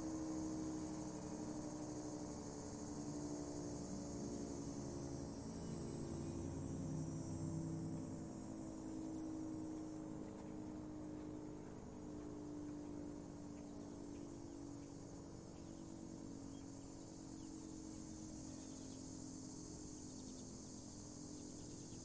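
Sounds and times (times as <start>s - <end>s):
crickets chirping: 0.0s - 22.0s
faint low hum: 0.0s - 22.0s.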